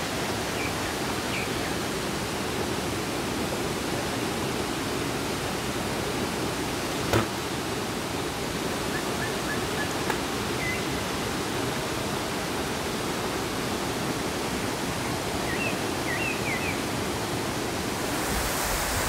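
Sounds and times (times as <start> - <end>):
waterfall rushing into pool: 0.0 - 19.0.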